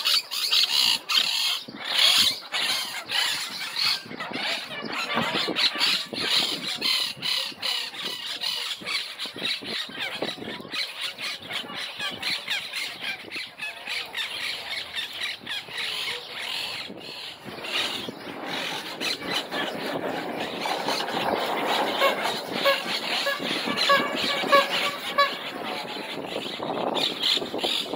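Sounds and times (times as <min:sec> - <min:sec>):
parakeets screeching and chattering: 0:00.0 - 0:27.9.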